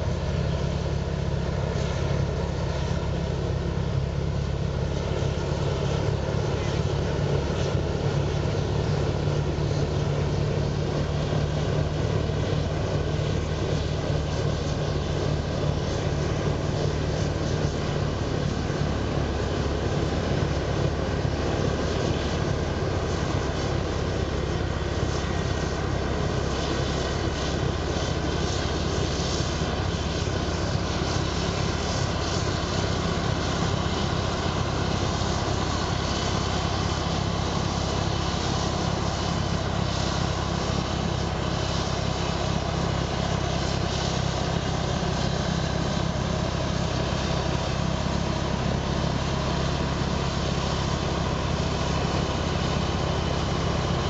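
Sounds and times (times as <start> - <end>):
snow blower diesel engine droning: 0.0 - 54.0.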